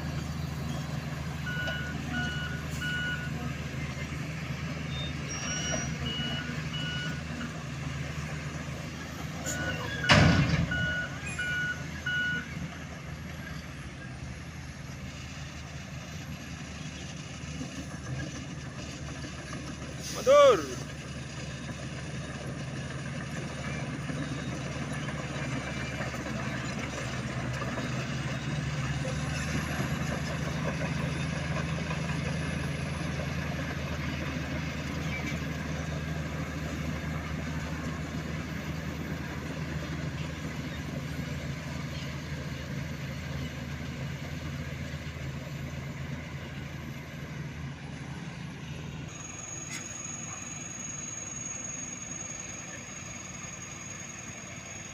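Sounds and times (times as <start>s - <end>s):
diesel truck engine rumbling: 0.0s - 54.9s.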